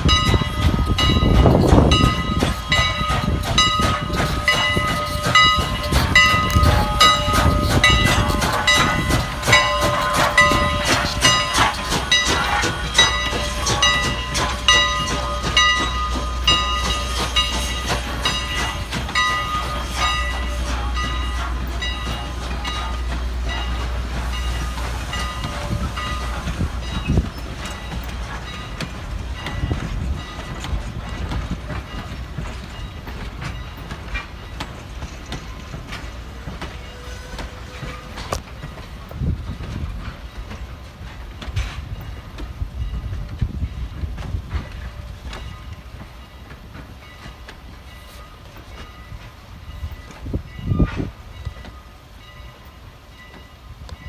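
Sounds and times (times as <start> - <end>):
train wheels clicking over rail joints: 0.0 - 54.0.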